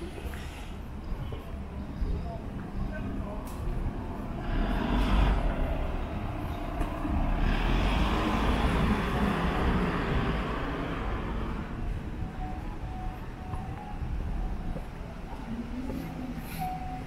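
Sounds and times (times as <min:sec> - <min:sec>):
vehicles passing close by: 0:00.0 - 0:17.0.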